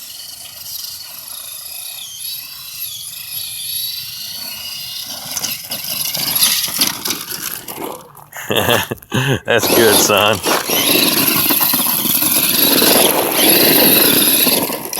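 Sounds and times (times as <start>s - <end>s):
toy truck electric motor whining: 0.0s - 8.2s, 9.5s - 14.9s
rough tyre noise: 0.0s - 14.9s.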